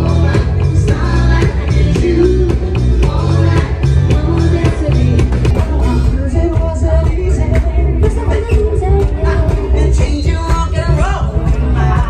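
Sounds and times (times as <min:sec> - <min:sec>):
bass guitar: 0:00.0 - 0:12.0
drum kit: 0:00.0 - 0:12.0
guitar: 0:00.0 - 0:12.0
person singing: 0:00.0 - 0:12.0.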